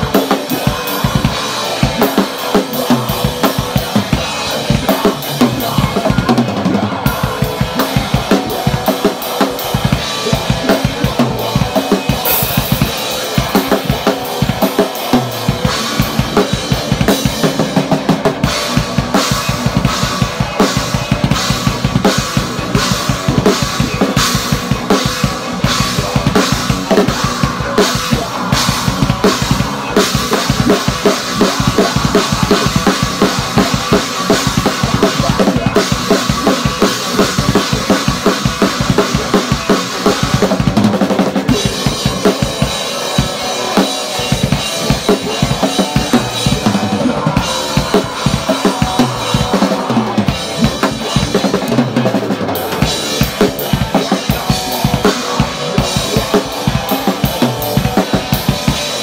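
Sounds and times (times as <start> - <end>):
drum kit played fast: 0.0 - 59.0.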